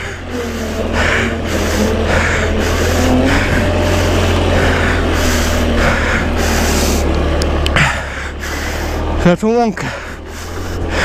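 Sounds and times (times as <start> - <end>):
scooter engine drone: 0.0 - 11.0.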